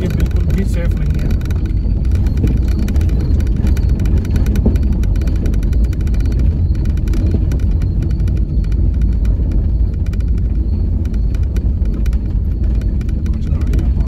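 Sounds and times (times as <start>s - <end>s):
car engine and tyres rumbling: 0.0s - 14.0s
small rattles and knocks: 0.0s - 14.0s.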